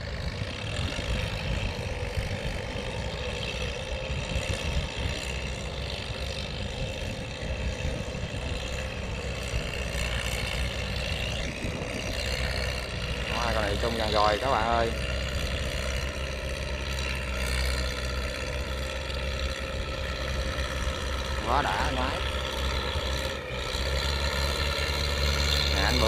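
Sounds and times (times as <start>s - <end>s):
tractor diesel engines running: 0.0s - 26.0s.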